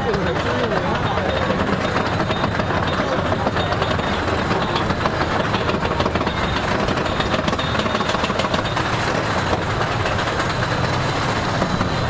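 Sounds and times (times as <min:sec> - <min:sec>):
roller coaster cars rattling: 0:00.0 - 0:12.0.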